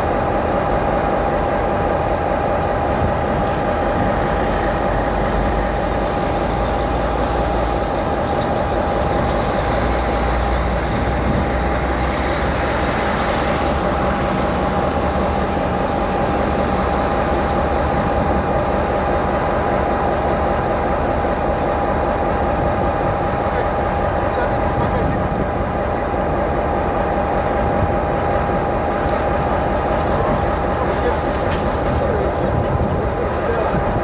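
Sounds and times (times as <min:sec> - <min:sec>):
constant whine: 0:00.0 - 0:34.0
locomotive idling: 0:00.0 - 0:34.0.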